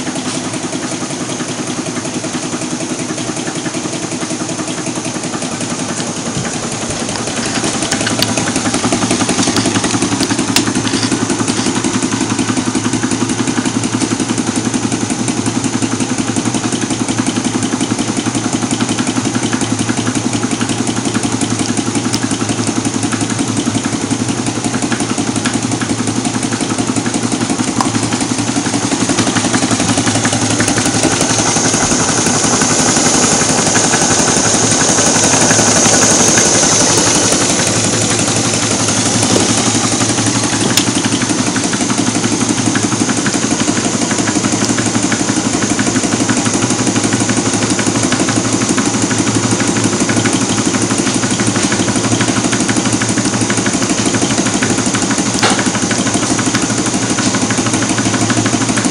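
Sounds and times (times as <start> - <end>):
stirling engine clattering: 0.0 - 58.9.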